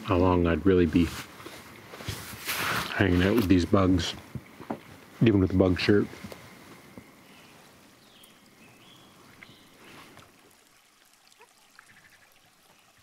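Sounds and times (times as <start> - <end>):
faint steady hiss: 0.0 - 13.0
faint scattered ticks: 1.2 - 13.0.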